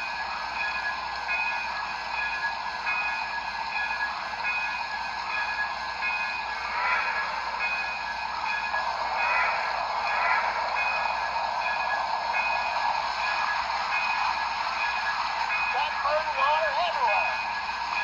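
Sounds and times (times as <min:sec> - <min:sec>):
model train whirring: 0:00.0 - 0:18.0.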